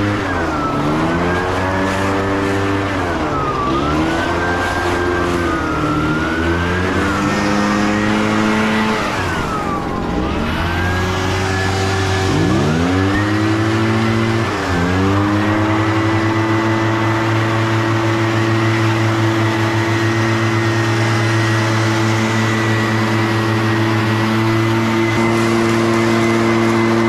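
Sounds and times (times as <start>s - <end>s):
leaf blower engine revving: 0.0s - 27.0s.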